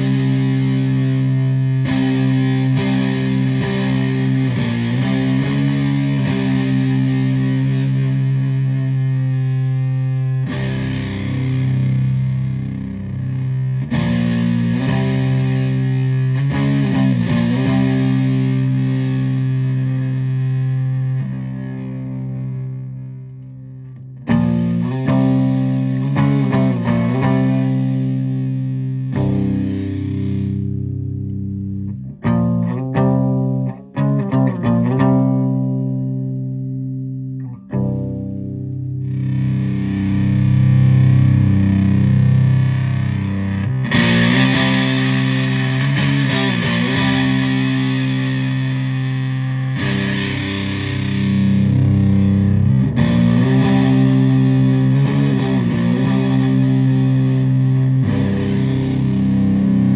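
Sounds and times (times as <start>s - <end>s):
fuzzed electric guitar chords: 0.0s - 59.9s.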